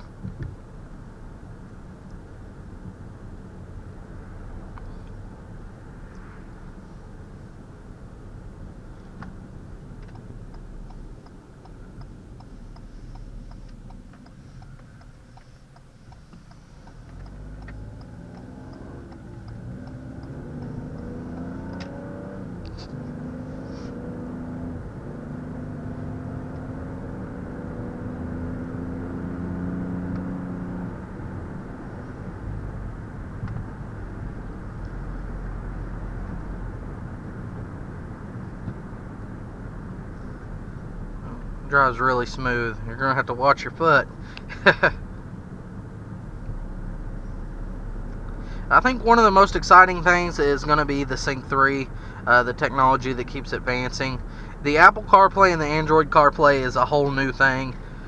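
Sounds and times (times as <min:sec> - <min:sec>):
car engine accelerating: 0:00.0 - 0:58.0
tyre and road noise: 0:00.0 - 0:58.0.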